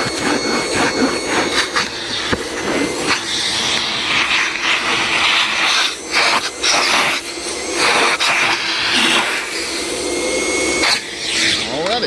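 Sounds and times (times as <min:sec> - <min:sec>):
vacuum cleaner on upholstery: 0:00.0 - 0:12.0.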